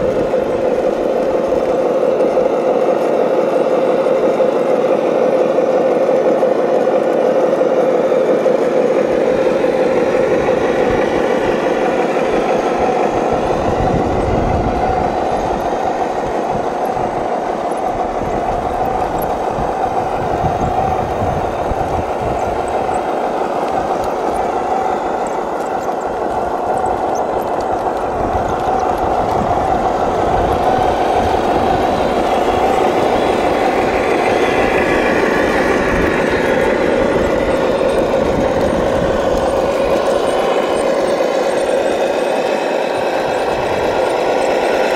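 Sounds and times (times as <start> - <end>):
model truck drive whining: 0.0 - 44.9.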